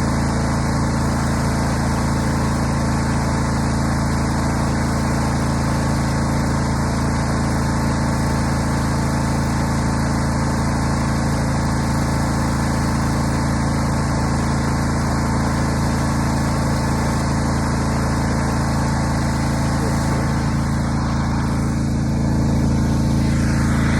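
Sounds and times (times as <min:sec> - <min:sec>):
engine humming steadily: 0:00.0 - 0:23.9.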